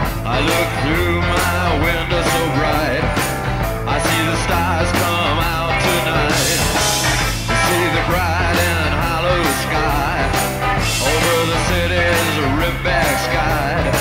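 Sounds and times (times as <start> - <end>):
rock music with singer: 0.0 - 14.0.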